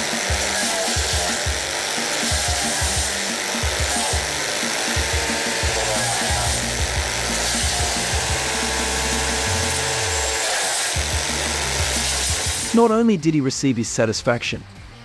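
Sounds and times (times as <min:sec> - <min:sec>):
background music with bass line: 0:00.0 - 0:10.4, 0:11.0 - 0:15.0
wood chipper running: 0:00.0 - 0:12.9.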